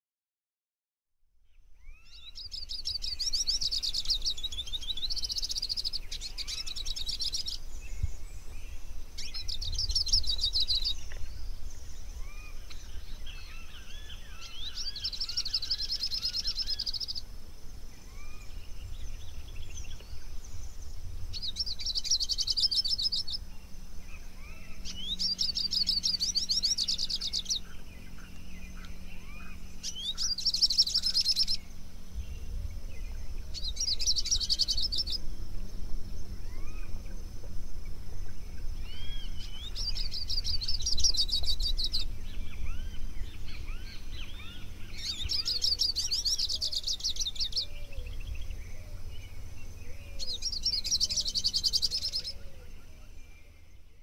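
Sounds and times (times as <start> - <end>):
bird chirps: 1.5 - 54.0
low outdoor rumble: 1.6 - 54.0
songbird trilling: 1.8 - 54.0.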